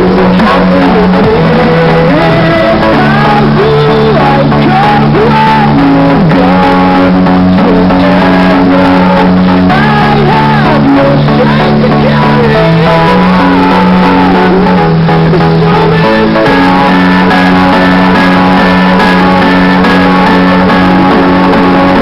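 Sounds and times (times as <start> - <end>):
loud music with wavering melody: 0.0 - 22.0.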